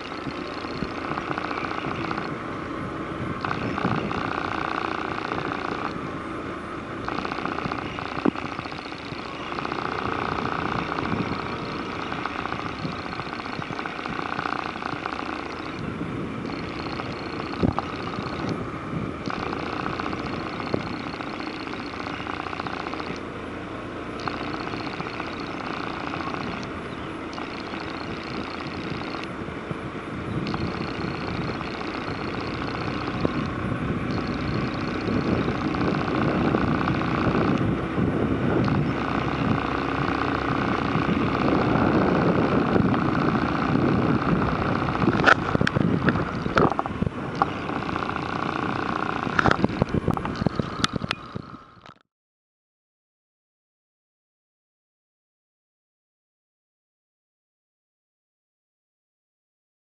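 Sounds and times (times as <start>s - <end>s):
motorcycle riding: 0.0s - 52.0s
wind noise: 0.0s - 52.0s.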